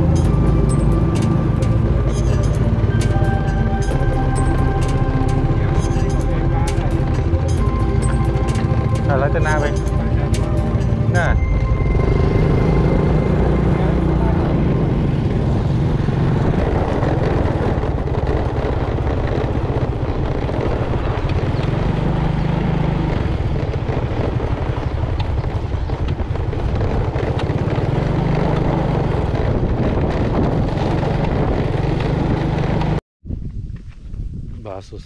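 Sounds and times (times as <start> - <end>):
motorcycle engine running: 0.0 - 33.0
road noise: 0.0 - 33.0
wind noise: 0.0 - 35.0.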